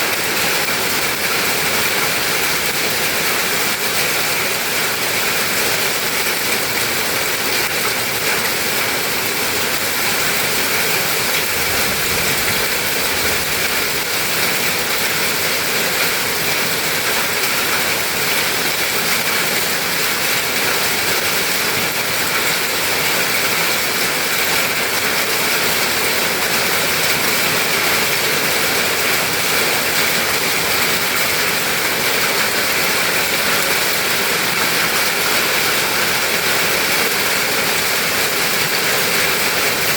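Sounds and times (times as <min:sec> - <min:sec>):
torrential rain with hail: 0:00.0 - 0:39.9.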